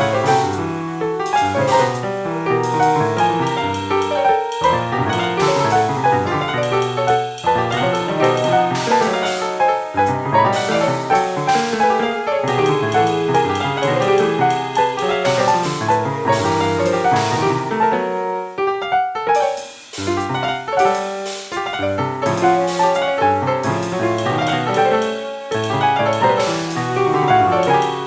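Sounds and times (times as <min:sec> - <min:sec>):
free jazz piano: 0:00.0 - 0:28.0.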